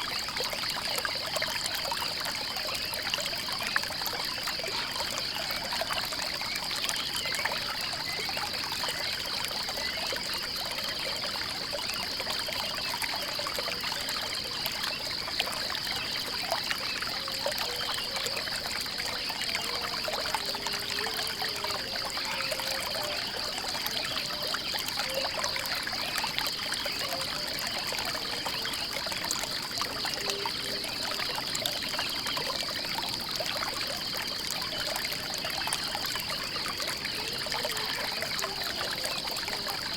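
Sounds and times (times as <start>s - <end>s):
water trickling and pouring: 0.0s - 39.9s.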